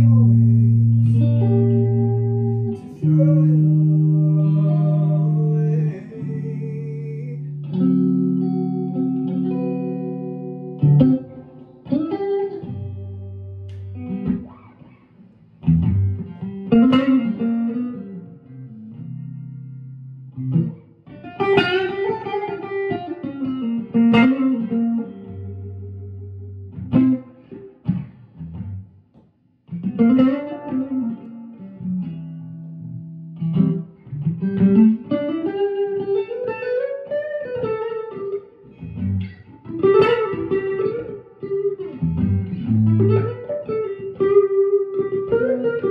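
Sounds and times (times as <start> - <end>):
clean electric guitar bluesy phrases: 0.0 - 45.9.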